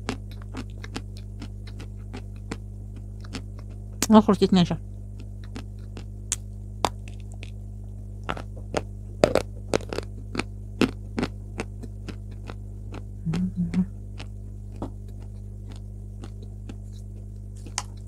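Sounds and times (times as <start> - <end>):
chewing crackles and mouth clicks: 0.0 - 4.1, 5.1 - 7.6, 8.2 - 18.0
low electrical hum: 0.0 - 18.0.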